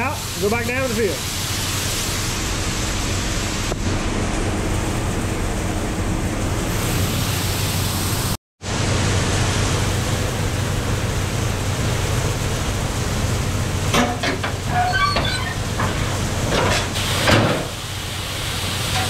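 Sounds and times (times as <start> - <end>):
grain machinery hiss and hum: 0.0 - 19.0.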